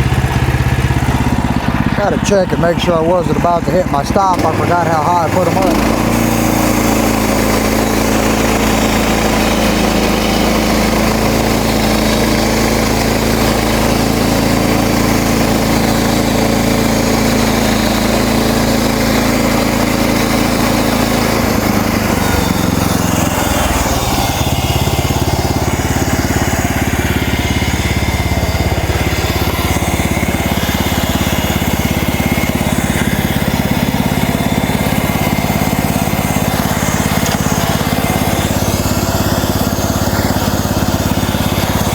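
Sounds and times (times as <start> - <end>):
band blade sawing log: 0.0 - 41.9
gas engine running: 0.0 - 41.9.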